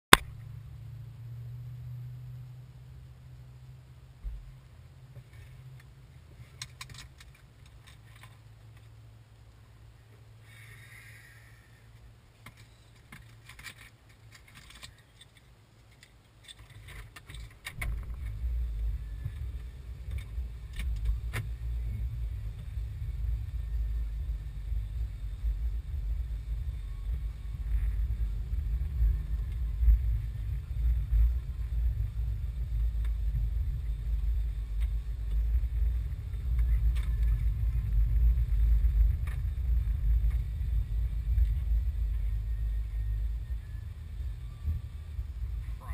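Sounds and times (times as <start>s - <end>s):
car engine rumble: 0.1s - 45.9s
road noise: 0.1s - 45.9s.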